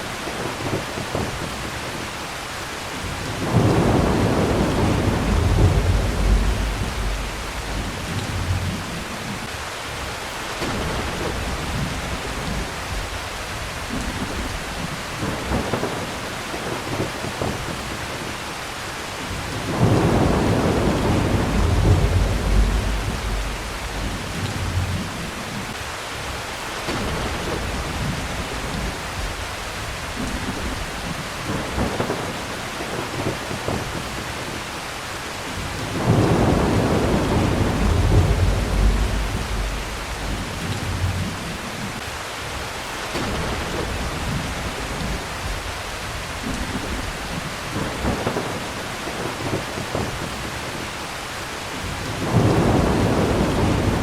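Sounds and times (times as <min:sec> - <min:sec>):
heavy rain: 0:00.0 - 0:54.0
thunder rumbling: 0:02.9 - 0:09.5, 0:10.5 - 0:18.4, 0:19.3 - 0:25.8, 0:26.9 - 0:34.7, 0:35.5 - 0:42.0, 0:43.1 - 0:51.0, 0:51.8 - 0:54.0.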